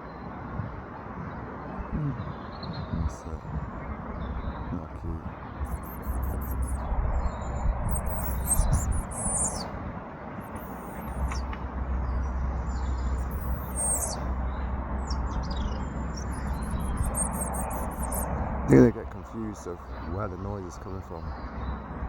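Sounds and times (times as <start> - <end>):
wind rumble on microphone: 0.0 - 20.2
robin singing: 1.6 - 9.7, 10.4 - 21.9.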